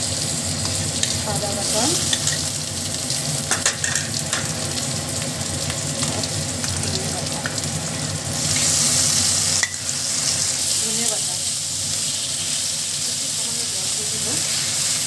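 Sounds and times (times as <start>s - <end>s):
onions frying in hot oil: 0.0s - 15.0s.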